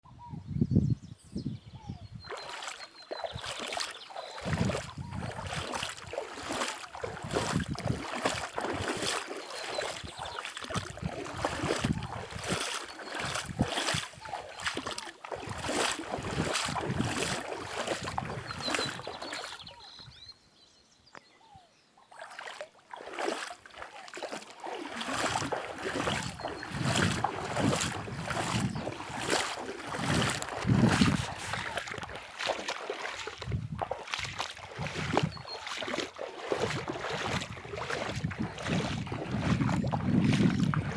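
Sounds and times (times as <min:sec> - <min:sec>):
river water splashing: 0:02.3 - 0:20.0, 0:22.0 - 0:40.9.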